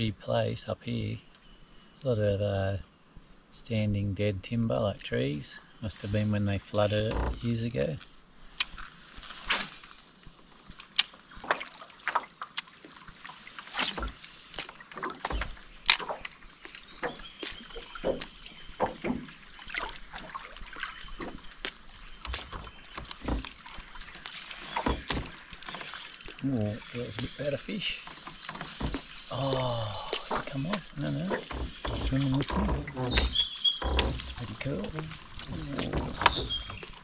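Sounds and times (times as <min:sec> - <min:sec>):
water lapping against hull: 0:05.1 - 0:37.0.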